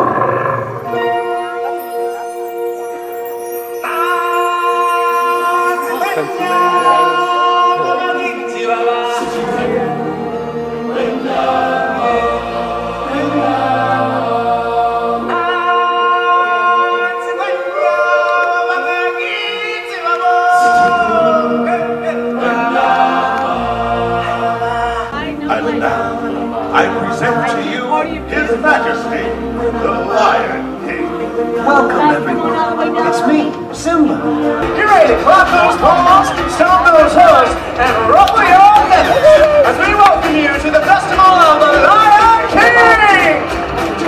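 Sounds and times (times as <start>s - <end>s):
choir and solo voices singing: 3.6s - 44.0s.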